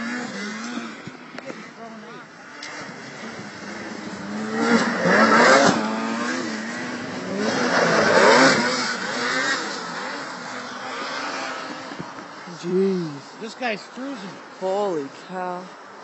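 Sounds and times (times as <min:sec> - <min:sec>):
snowmobile engines passing by: 0:00.0 - 0:15.8.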